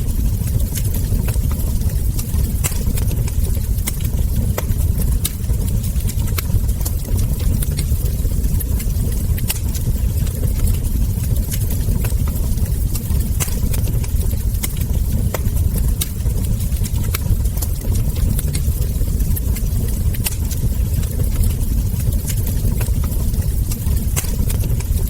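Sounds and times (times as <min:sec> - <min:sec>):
low rumble of burning fire: 0:00.0 - 0:25.0
wood fire crackling: 0:00.0 - 0:25.0.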